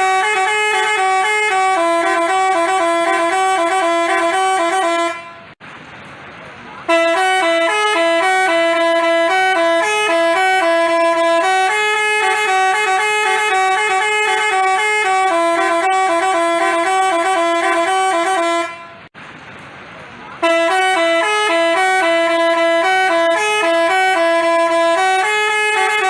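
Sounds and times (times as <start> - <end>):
multi-tone bus horn tune: 0.0 - 5.6, 6.8 - 19.1, 20.4 - 26.0.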